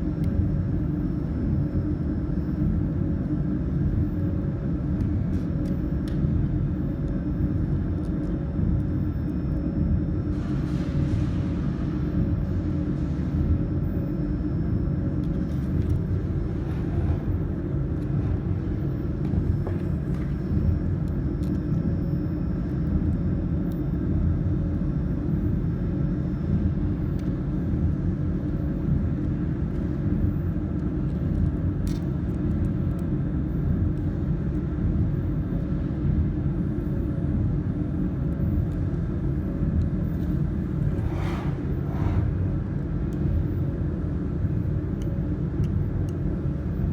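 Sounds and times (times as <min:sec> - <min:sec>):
low rumble and hum: 0:00.0 - 0:46.9.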